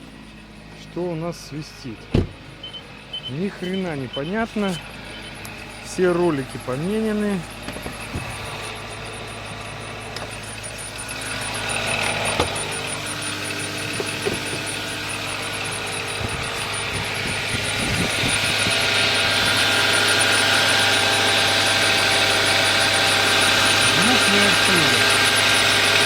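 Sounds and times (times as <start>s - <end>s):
car engine idling: 0.0s - 26.0s
high-pitched engine whistle: 2.6s - 26.0s.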